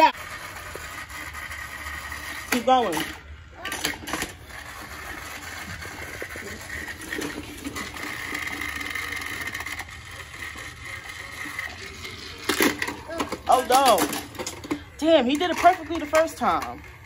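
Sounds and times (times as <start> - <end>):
toy train motor whirring: 0.0 - 17.0.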